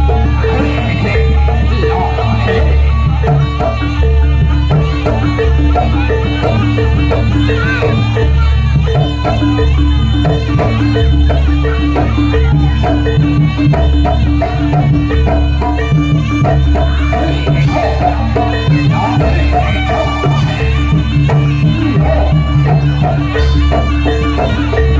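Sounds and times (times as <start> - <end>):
hand drums beating: 0.0 - 24.9.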